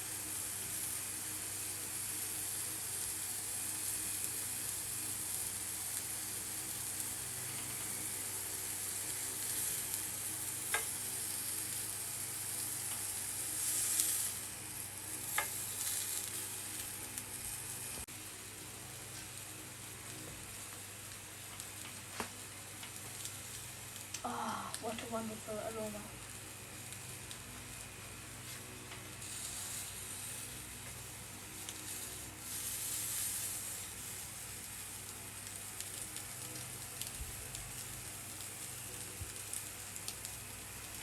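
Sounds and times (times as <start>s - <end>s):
skewers sizzling in a pan: 0.0s - 41.0s.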